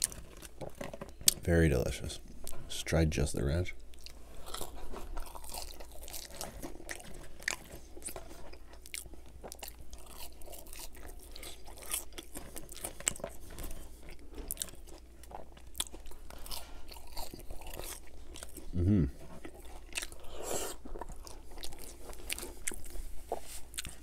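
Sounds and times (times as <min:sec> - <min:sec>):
chewing crunchy fries: 0:00.0 - 0:24.0.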